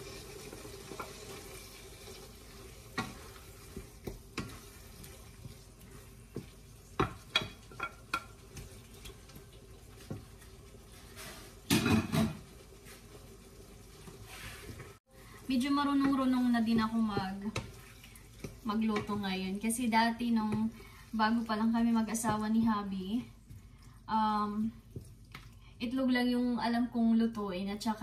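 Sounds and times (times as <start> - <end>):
faint sizzle: 0.0 - 28.0
wooden spatula scraping a frying pan: 0.1 - 23.7.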